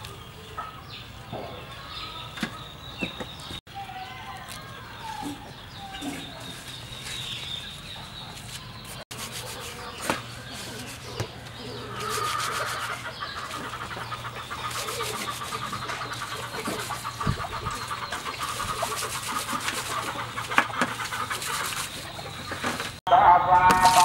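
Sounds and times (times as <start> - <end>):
steady background chirping: 0.0 - 24.0.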